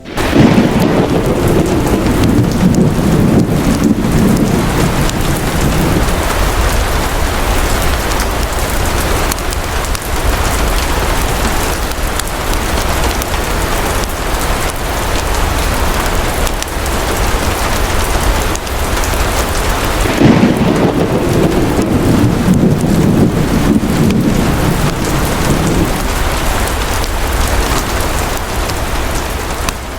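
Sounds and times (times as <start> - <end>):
heavy rain: 0.0 - 29.9
rolling thunder: 0.0 - 29.9.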